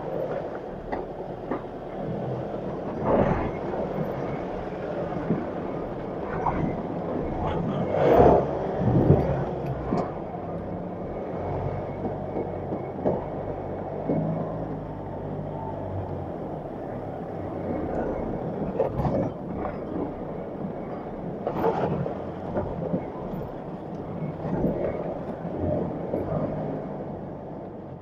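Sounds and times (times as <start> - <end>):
engine and drivetrain rumble: 0.0 - 28.0.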